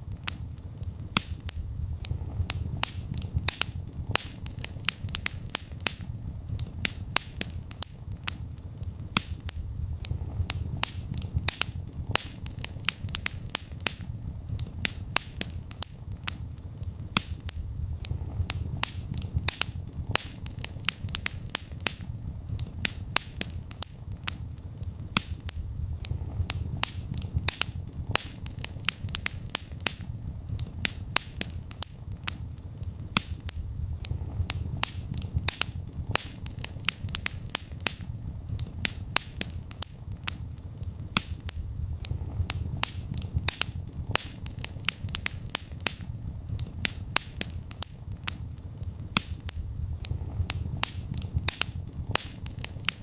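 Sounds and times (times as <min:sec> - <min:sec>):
fire crackling and popping: 0:00.0 - 0:53.0
fire rumbling: 0:00.0 - 0:53.0.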